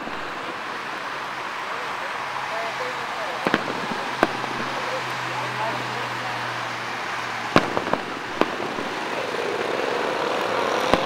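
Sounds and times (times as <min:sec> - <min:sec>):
fireworks bursting: 0:00.0 - 0:11.0
steady background hiss: 0:00.0 - 0:11.0.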